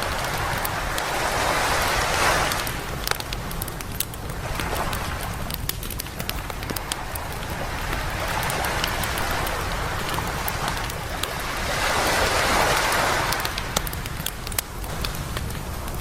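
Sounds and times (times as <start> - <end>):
campfire popping and crackling: 0.0 - 16.0
waves washing on a beach: 0.0 - 16.0.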